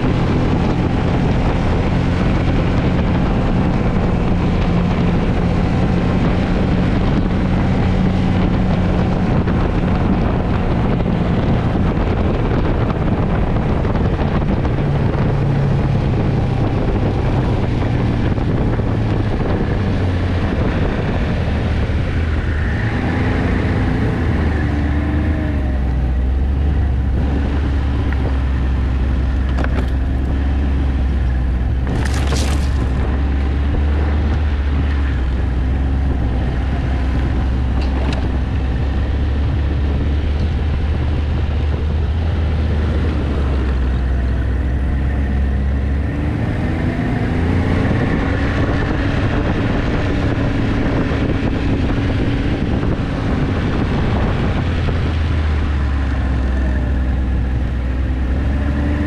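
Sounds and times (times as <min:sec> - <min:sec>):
snowmobile engine running: 0:00.0 - 0:59.0
wind on microphone: 0:00.0 - 0:59.0.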